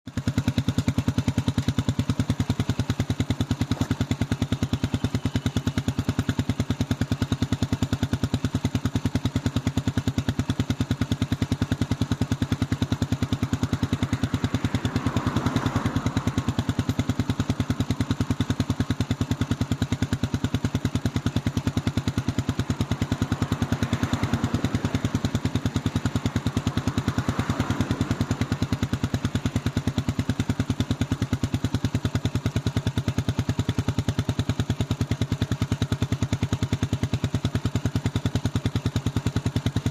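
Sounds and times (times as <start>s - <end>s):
motorcycle exhaust idling: 0.1s - 39.9s.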